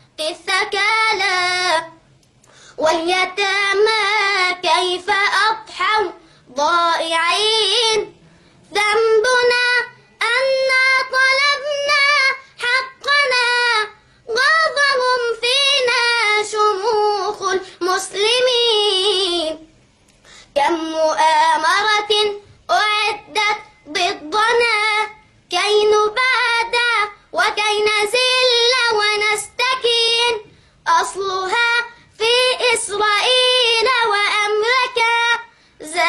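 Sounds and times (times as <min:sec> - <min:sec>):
boy singing: 0:00.2 - 0:02.0, 0:02.8 - 0:19.7, 0:20.5 - 0:36.0.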